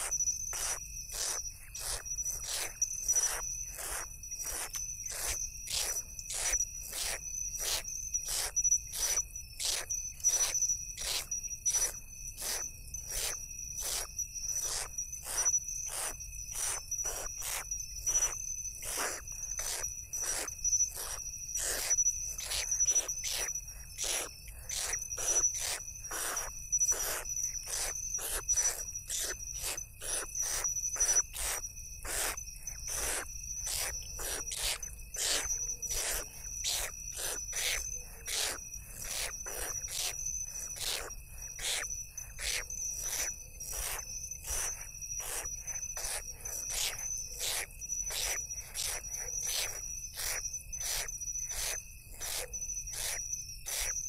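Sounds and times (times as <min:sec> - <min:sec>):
owl chicks hissing calls: 0:00.0 - 0:53.9
high insect trill: 0:00.0 - 0:54.0.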